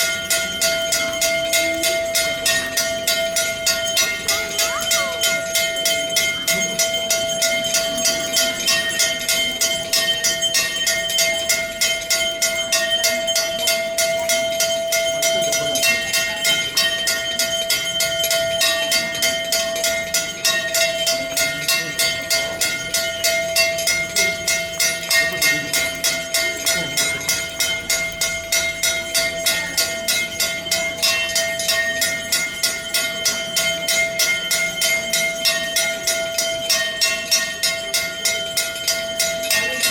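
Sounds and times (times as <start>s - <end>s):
temple bells rung rapidly: 0.0s - 39.9s.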